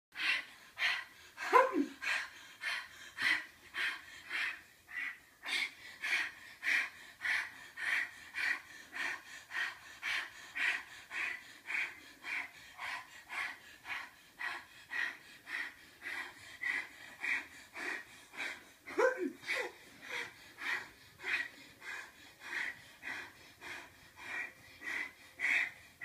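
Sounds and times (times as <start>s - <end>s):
people panting rapidly: 0.1s - 26.0s.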